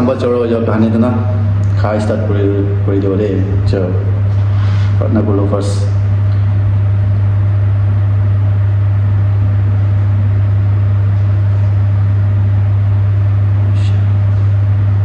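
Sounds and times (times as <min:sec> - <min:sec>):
loud steady low hum: 0:00.0 - 0:15.0.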